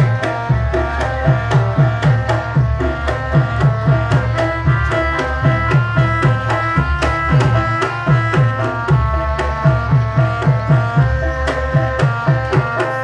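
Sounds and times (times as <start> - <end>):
hand drum fast rhythm: 0.0 - 13.0.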